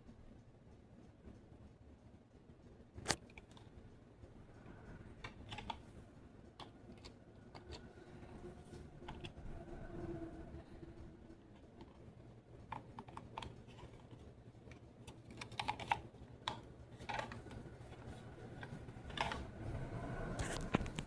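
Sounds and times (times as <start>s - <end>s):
ceiling fan humming: 0.0s - 21.0s.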